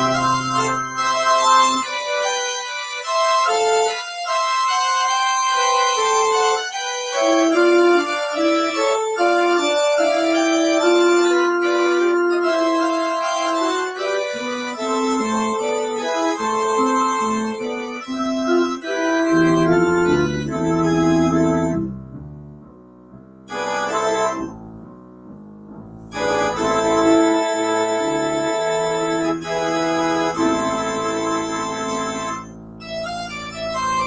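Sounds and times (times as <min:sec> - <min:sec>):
organ playing slow chords: 0:00.0 - 0:22.8, 0:23.5 - 0:34.0.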